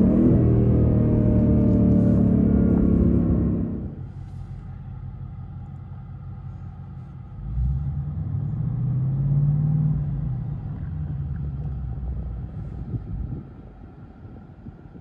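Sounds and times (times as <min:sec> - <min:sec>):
car engine rumbling from inside cabin: 0:00.0 - 0:15.0.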